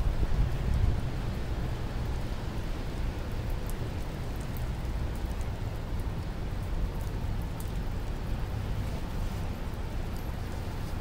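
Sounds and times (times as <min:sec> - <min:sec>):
rain on wet pavement: 0:00.0 - 0:11.0.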